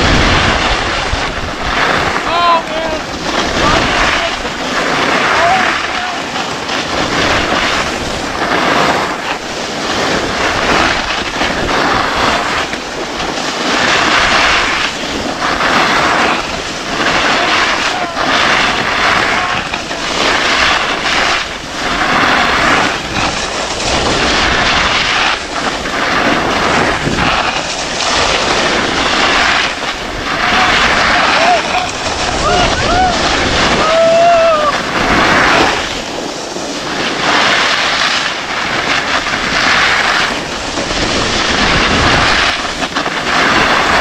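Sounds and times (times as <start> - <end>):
skis scraping over packed snow: 0.0 - 44.0.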